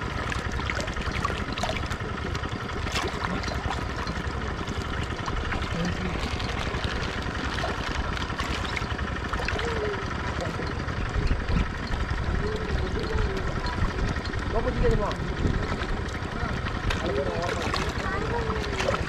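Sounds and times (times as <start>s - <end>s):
low steady rumble: 0.0s - 19.0s
water splashing and sloshing: 0.0s - 19.0s.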